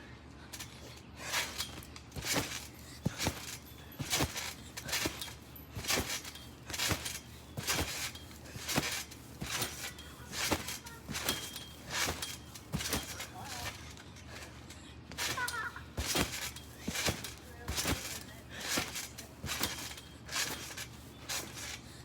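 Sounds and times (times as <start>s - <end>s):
thumps of person landing jumps: 0.6s - 13.9s, 15.1s - 21.9s.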